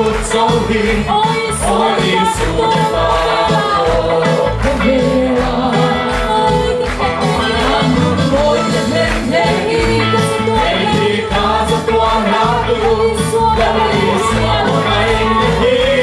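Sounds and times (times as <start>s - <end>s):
group of voices singing: 0.0s - 16.0s
steady drum beat: 0.0s - 16.0s.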